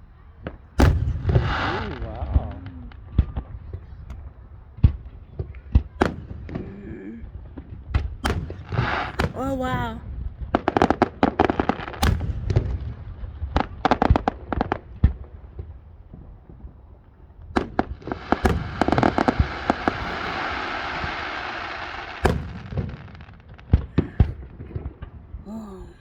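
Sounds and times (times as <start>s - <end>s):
fireworks bangs and pops: 0.4s - 25.4s.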